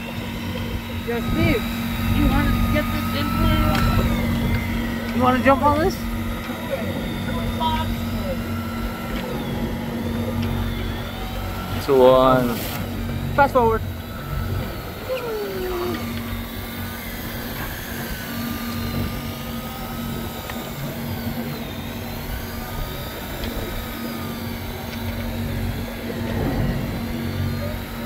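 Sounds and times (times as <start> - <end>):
boat engine drone: 0.0 - 28.0
electric fishing reel whine: 0.0 - 28.0.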